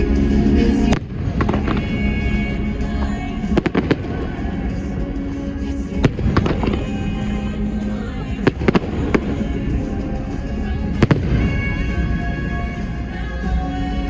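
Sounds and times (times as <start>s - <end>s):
show music soundtrack: 0.0s - 14.0s.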